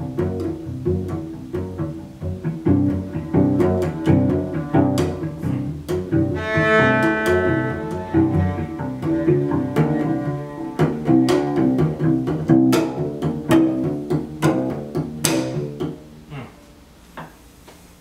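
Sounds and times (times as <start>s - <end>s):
bowed cello: 0.0s - 16.6s.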